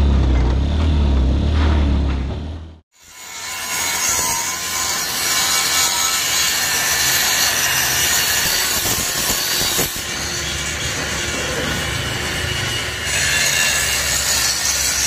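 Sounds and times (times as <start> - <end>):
angle grinders cutting steel: 2.9 - 15.0.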